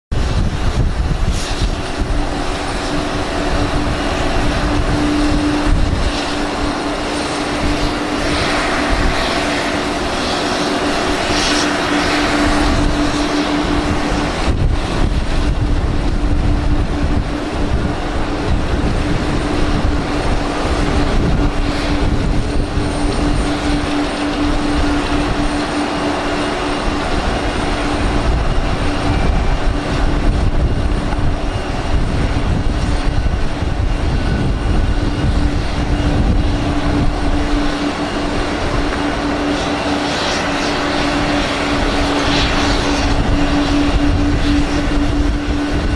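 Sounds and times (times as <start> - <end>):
airliner engine hum: 0.0 - 45.9
low rumbling noise: 0.1 - 45.9.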